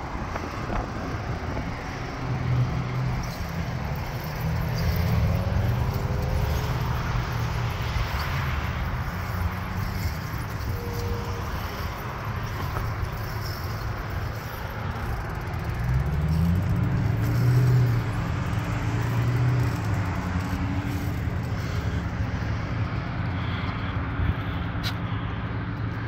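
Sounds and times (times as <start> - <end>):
heavy vehicle passing: 0.0 - 26.0
road traffic hum: 0.0 - 26.0.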